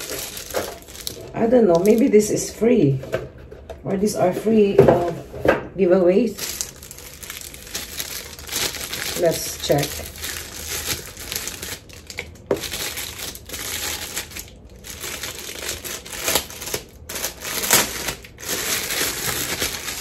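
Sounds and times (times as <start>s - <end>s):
plastic bag crinkling: 0.0s - 2.5s, 6.2s - 20.0s.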